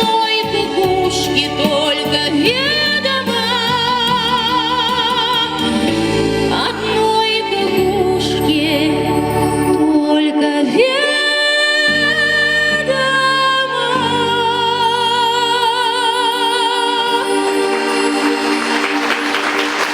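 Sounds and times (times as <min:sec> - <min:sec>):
woman singing with vibrato: 0:00.0 - 0:18.6
instrumental accompaniment with bass: 0:00.0 - 0:19.9.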